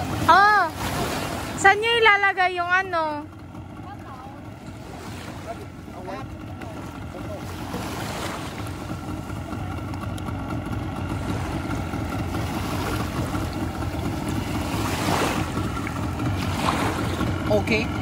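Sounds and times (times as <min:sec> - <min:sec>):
small waves washing: 0:00.0 - 0:18.0.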